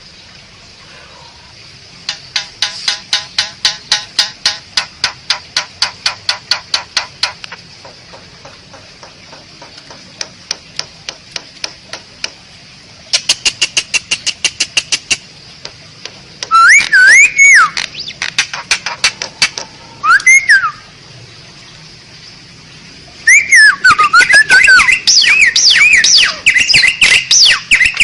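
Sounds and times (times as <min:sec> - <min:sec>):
starling clicking calls: 0:02.0 - 0:12.4, 0:13.0 - 0:20.9, 0:23.2 - 0:28.0.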